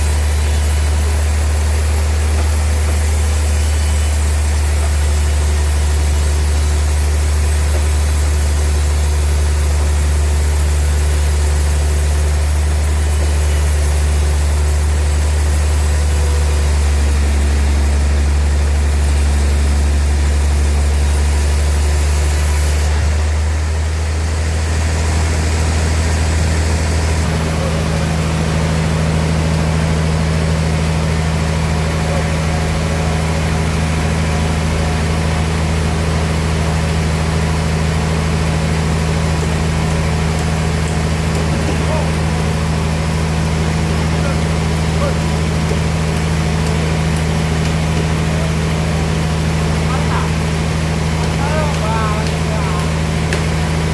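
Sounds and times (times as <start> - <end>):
sawmill machinery humming: 0.0 - 53.9.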